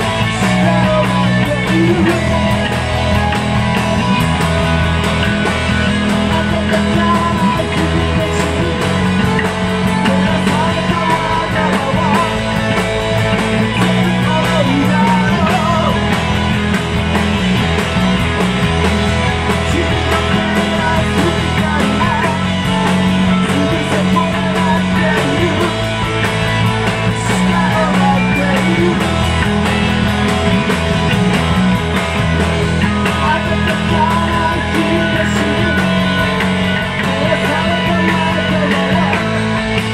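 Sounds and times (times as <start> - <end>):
man singing: 0.0 - 16.6, 18.9 - 29.8, 32.7 - 39.9
rock band playing live: 0.0 - 39.9.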